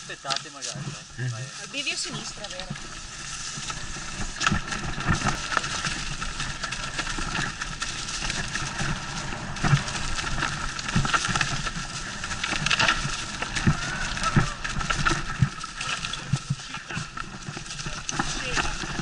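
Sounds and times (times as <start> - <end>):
tyres crunching through leaves: 0.0 - 19.0
bike rattling and knocking: 2.0 - 19.0.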